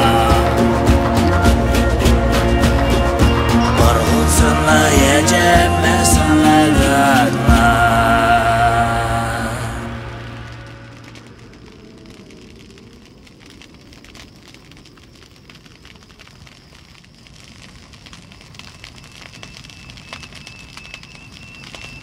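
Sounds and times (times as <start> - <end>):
crackling wind: 0.0 - 22.0.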